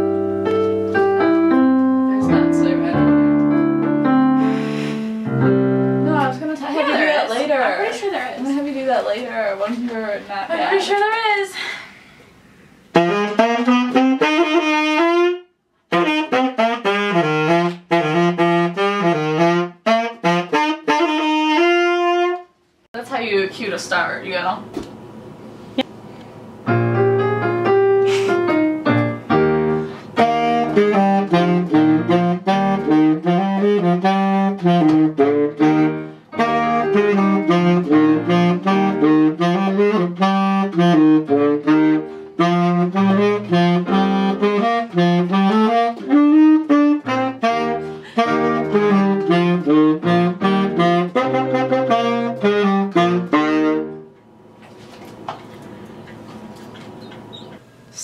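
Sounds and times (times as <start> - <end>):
tenor saxophone jazzy melody: 0.0 - 8.0, 12.8 - 22.6, 26.7 - 57.5.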